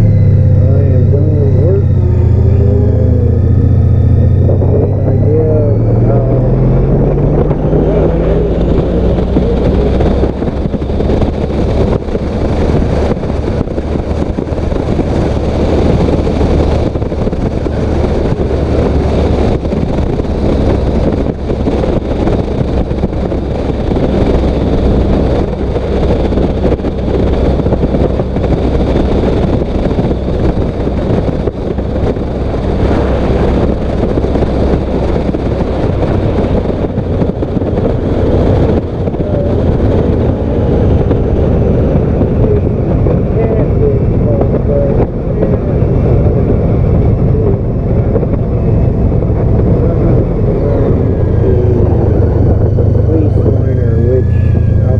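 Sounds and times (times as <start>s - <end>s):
low steady hum: 0.0s - 54.9s
wind rumble on microphone: 0.0s - 54.9s.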